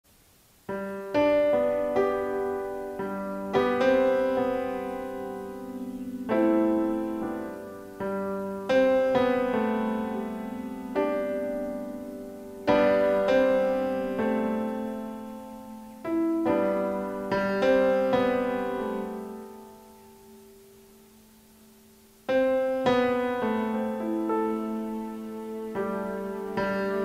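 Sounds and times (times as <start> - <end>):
slow piano chords: 0.6 - 27.0.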